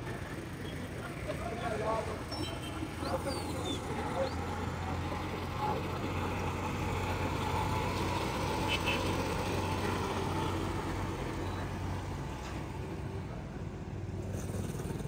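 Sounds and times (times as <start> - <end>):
traffic engines humming: 0.0 - 15.0.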